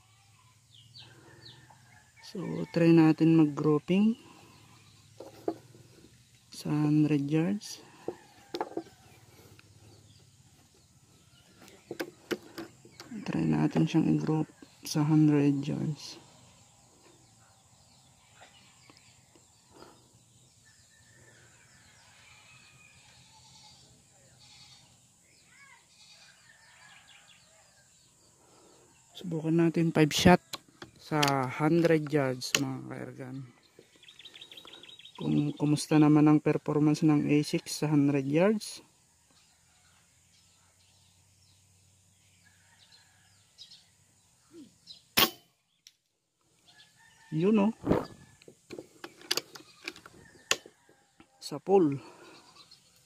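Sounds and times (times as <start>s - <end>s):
distant birds calling: 0.0s - 35.8s, 42.3s - 53.0s.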